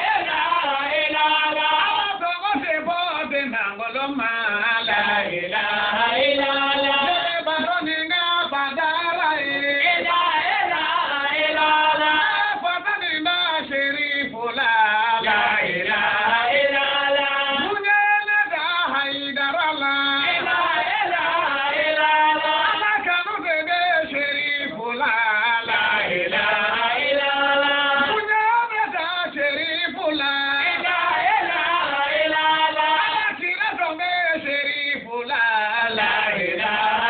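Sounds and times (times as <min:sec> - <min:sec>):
men chanting together: 0:00.0 - 0:37.0.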